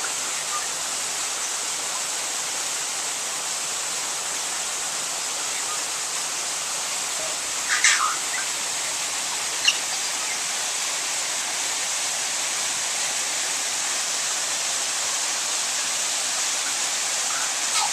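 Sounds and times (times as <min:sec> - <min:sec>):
steady rushing hiss: 0:00.0 - 0:17.9.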